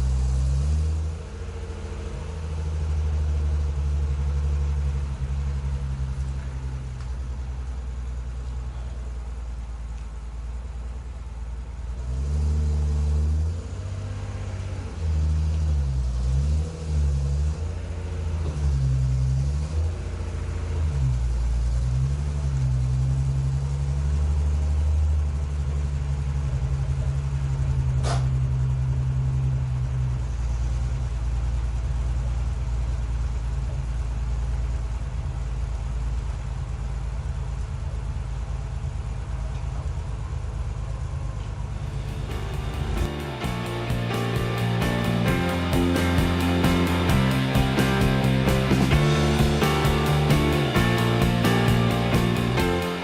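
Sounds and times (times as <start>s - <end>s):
car engine running with throttle blips: 0.0s - 53.0s.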